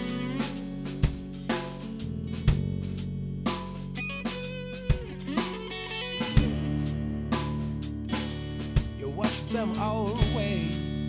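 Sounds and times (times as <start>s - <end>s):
guitar chords: 0.0s - 11.0s
low bass: 0.0s - 11.0s.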